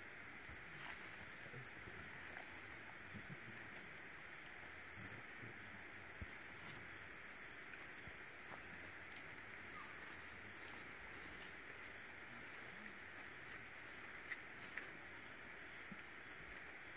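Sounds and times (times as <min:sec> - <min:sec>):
faint background hiss: 0:00.0 - 0:16.9.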